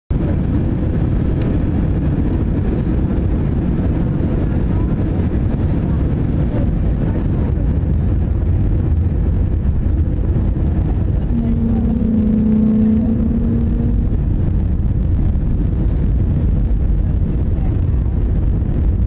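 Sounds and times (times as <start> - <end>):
aircraft cabin rumble: 0.1 - 19.0.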